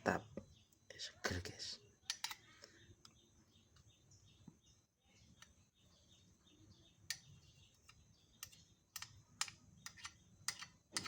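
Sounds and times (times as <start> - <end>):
faint rapid bird chirps: 0.2 - 10.9.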